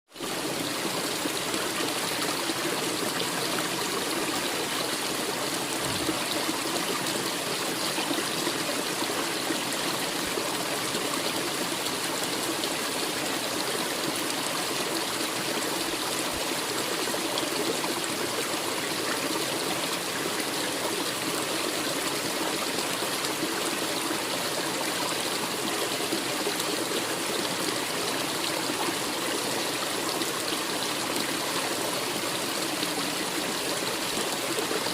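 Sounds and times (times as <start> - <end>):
stream burbling over rocks: 0.1 - 34.9.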